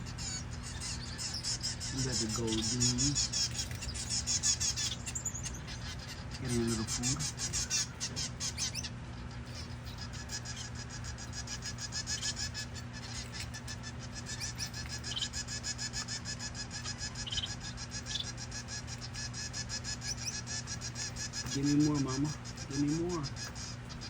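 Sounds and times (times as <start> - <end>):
finches chirping: 0.0 - 24.0
steady low hum: 0.0 - 24.0.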